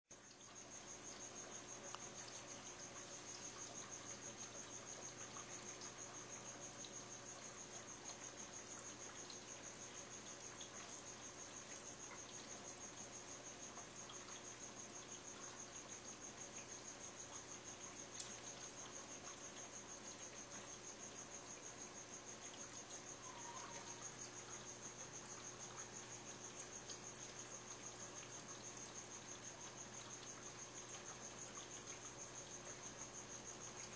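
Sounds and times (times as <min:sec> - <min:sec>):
aquarium filter and pump hum: 0:00.1 - 0:33.9.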